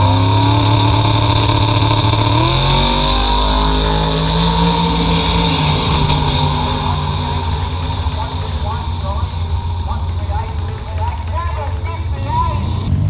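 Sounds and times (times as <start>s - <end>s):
drag car accelerating at full throttle: 0.0s - 13.0s.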